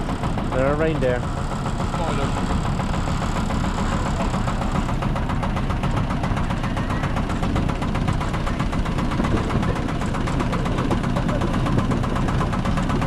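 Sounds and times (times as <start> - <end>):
miniature train engine humming: 0.0 - 13.0.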